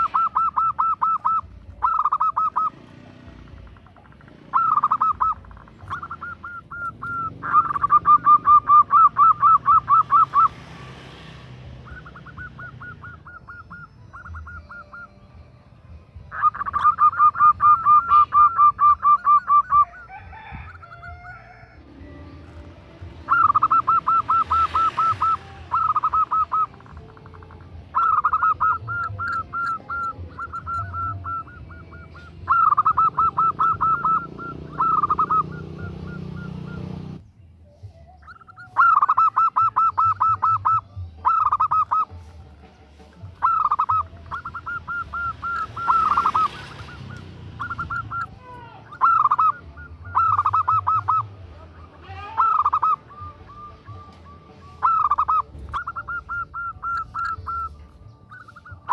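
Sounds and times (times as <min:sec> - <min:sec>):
dove cooing in rapid bursts: 0:00.0 - 0:15.1, 0:16.2 - 0:37.2, 0:38.2 - 0:58.9.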